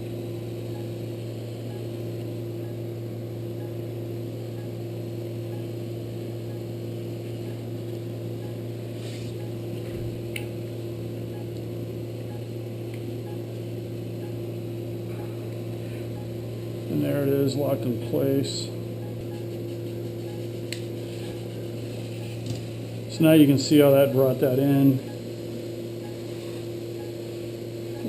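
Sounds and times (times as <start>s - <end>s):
electrical equipment hum: 0.0s - 28.0s.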